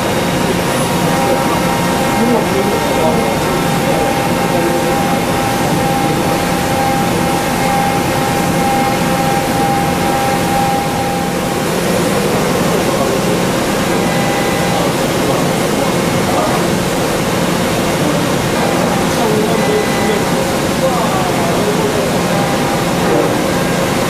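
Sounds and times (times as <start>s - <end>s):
high cutting tone: 0.0s - 24.0s.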